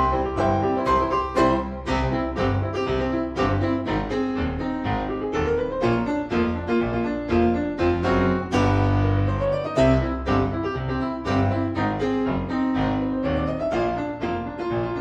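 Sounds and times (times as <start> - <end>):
quick piano-like keyboard tune: 0.0 - 15.0.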